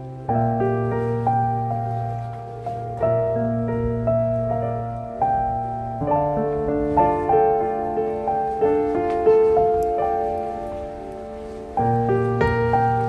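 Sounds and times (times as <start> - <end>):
held low piano bass notes: 0.0 - 13.0
slow piano melody: 0.0 - 13.0.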